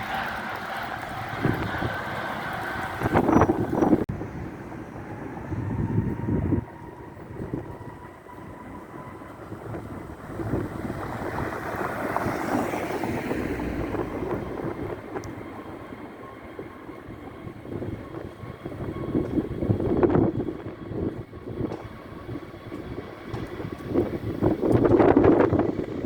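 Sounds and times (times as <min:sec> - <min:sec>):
jet engines passing: 0:00.0 - 0:26.0
wind buffeting microphone: 0:00.0 - 0:26.0.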